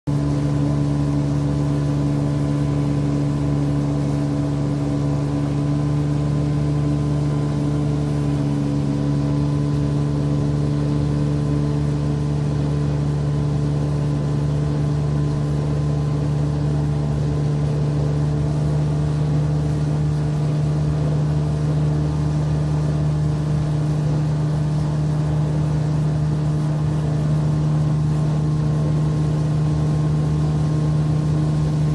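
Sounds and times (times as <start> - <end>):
motorboat engine drone: 0.1 - 31.9
rushing water: 0.1 - 31.9.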